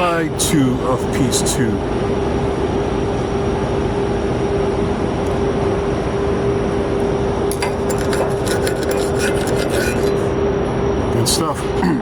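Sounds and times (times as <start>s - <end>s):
machinery hum with constant tone: 0.0s - 12.0s.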